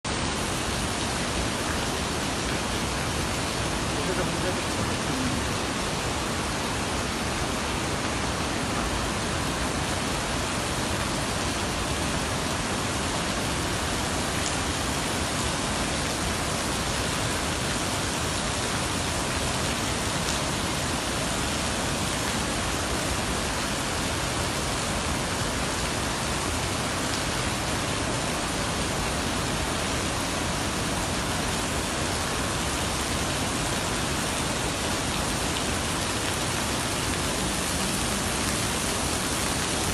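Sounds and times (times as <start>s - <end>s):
waterfall rushing: 0.1s - 39.9s.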